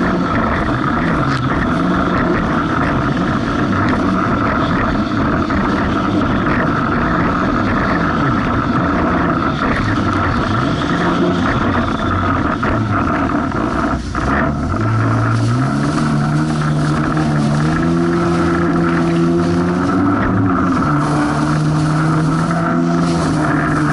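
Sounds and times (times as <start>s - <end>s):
jet ski engine: 0.0s - 23.9s
wind and water rushing: 0.0s - 23.9s.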